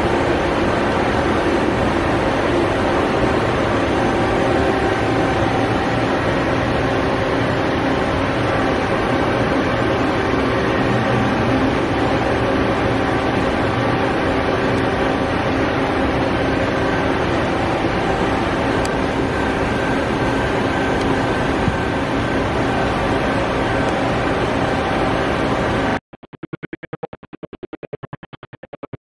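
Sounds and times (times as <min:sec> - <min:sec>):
machine hum and whir: 0:00.0 - 0:28.1.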